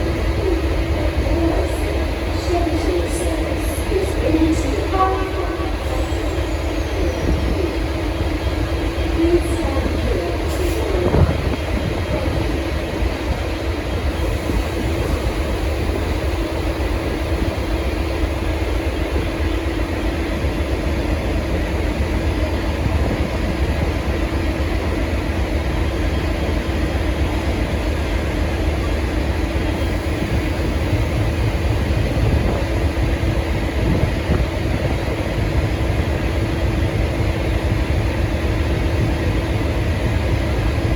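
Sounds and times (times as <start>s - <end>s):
diesel locomotive engine rumbling: 0.0s - 40.9s.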